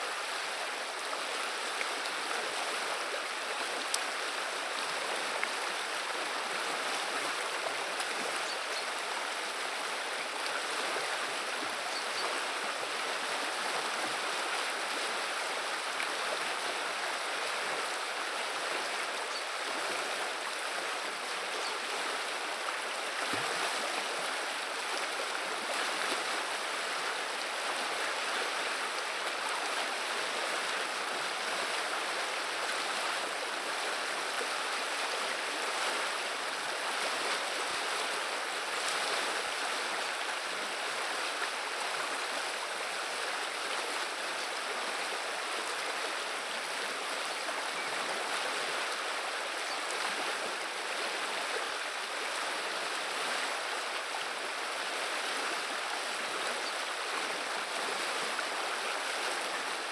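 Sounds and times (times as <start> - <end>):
river flowing: 0.0 - 59.9.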